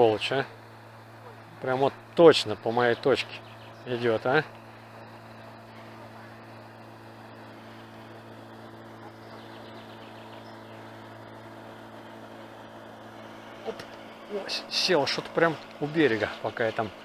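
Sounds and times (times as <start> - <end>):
motorboat engine humming: 0.0 - 17.0.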